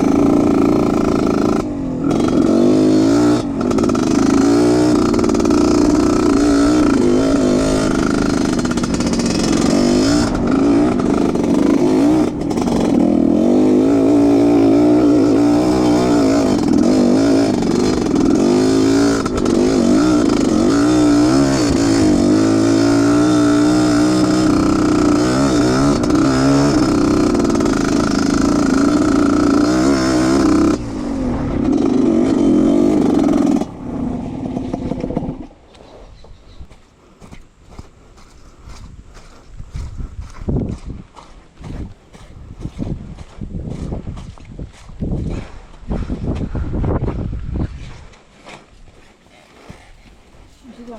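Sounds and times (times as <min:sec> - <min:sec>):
motorcycle engine revving: 0:00.0 - 0:35.9, 0:36.7 - 0:48.1.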